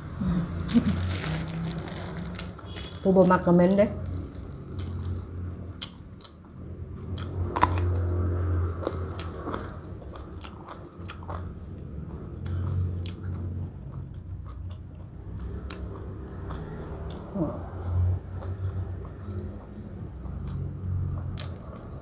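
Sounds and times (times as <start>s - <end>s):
person chewing crunchy food: 0.6s - 3.1s, 4.0s - 6.4s, 7.0s - 17.3s, 18.4s - 22.0s.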